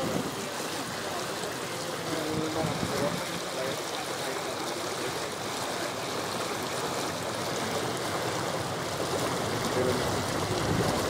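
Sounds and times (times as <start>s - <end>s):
water rushing along boat hull: 0.0s - 11.0s.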